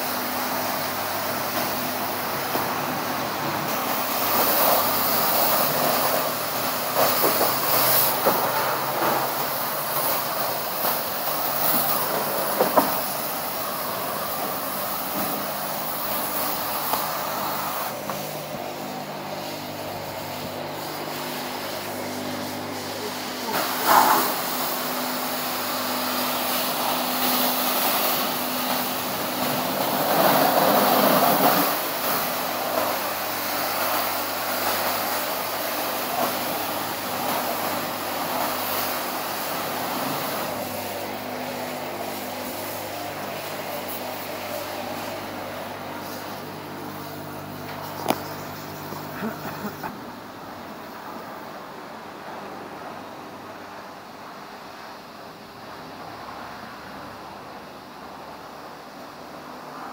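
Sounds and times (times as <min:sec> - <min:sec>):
high-pressure water spray hissing: 0:00.0 - 0:51.4
wash pump humming: 0:00.0 - 0:59.9.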